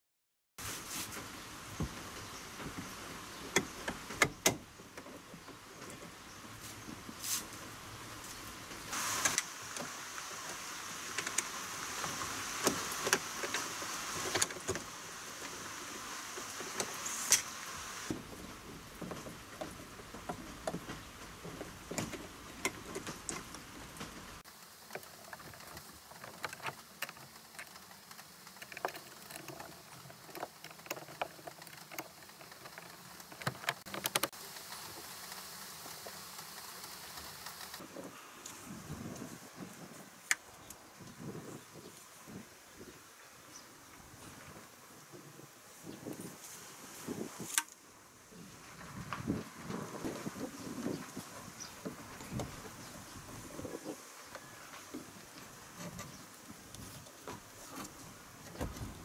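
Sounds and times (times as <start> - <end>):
steady high hiss: 0.6 - 59.0.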